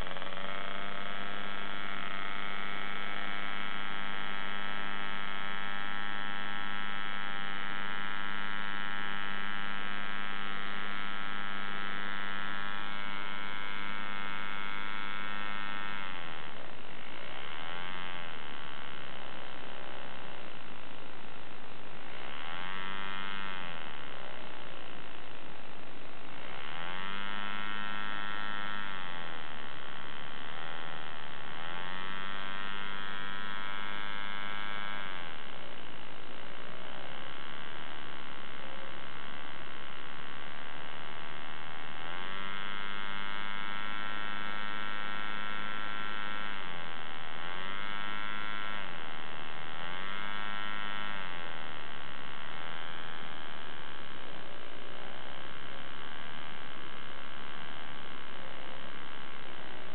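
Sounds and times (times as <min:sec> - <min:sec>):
model engine buzzing: 0:00.0 - 0:59.9.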